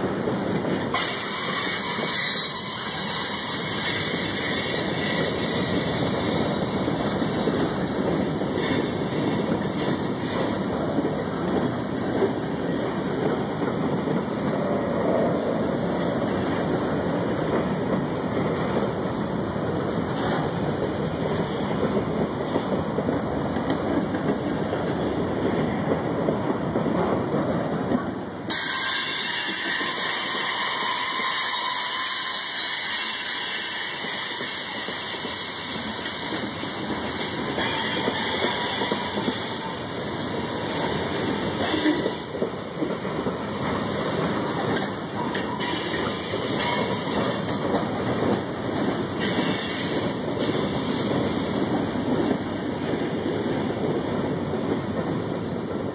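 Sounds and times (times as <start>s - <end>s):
steel train wheels on rail: 0.0s - 55.9s.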